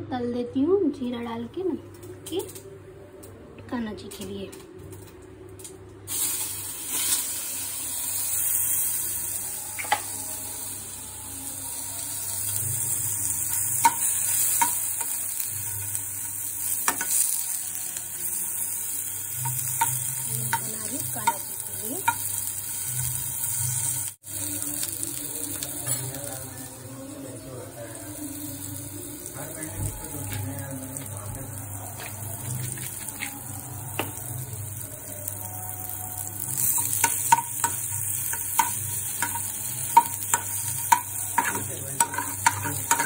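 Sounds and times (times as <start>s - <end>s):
food sizzling in hot oil: 6.1s - 43.0s.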